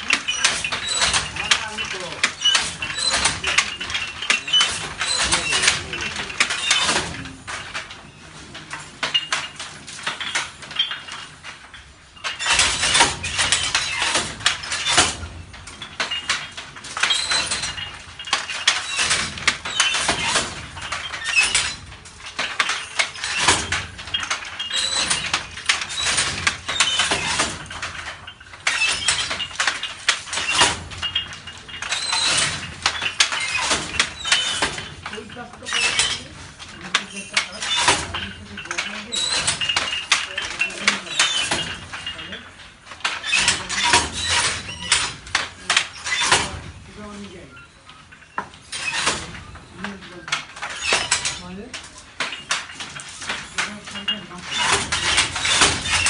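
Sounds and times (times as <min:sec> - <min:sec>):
wooden handloom clattering: 0:00.0 - 0:56.0.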